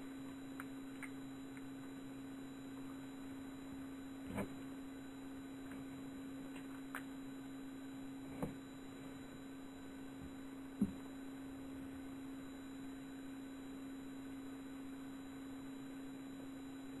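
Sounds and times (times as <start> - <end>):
steady single-pitched hum: 0.0 - 17.0.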